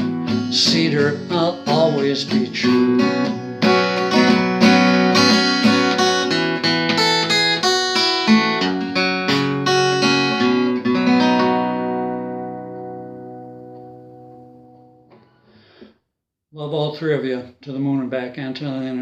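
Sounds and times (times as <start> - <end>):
guitar chords strummed: 0.0 - 15.4.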